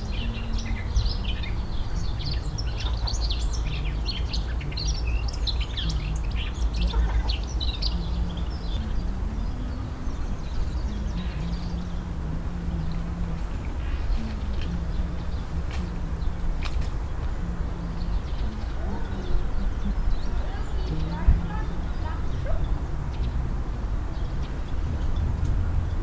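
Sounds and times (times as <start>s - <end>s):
faint wavering low hum: 0.0s - 26.0s
songbirds chirping and twittering: 0.0s - 26.0s
steady low rumble: 3.6s - 26.0s.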